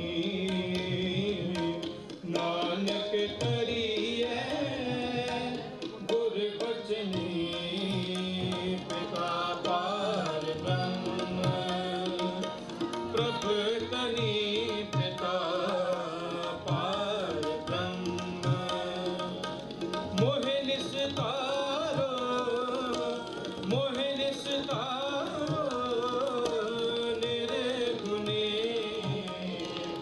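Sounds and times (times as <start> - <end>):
harmonium chords: 0.0 - 30.0
tabla playing a rhythm: 0.0 - 30.0.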